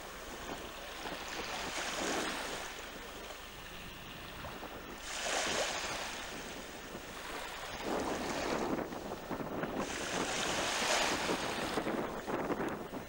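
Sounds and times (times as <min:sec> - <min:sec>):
small sea waves splashing: 0:00.0 - 0:13.0
wave surges: 0:00.0 - 0:13.0.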